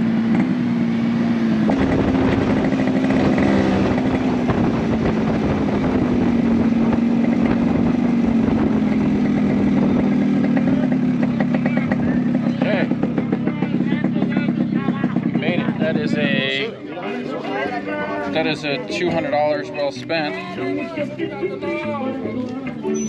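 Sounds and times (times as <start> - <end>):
small motorcycle engine droning: 0.0 - 23.0.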